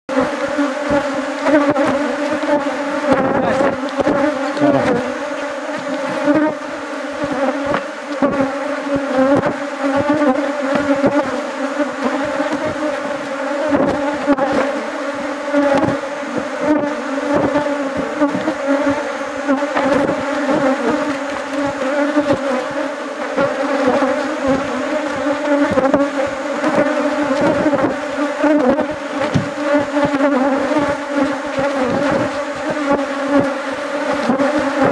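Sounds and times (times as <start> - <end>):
bees buzzing: 0.1 - 34.9.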